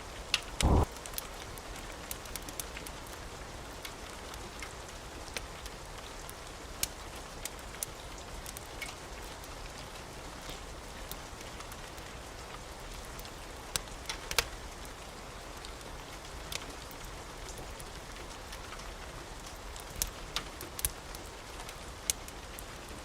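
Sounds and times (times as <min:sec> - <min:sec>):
steady rain hiss: 0:00.0 - 0:23.0
wood fire crackling: 0:00.1 - 0:23.0.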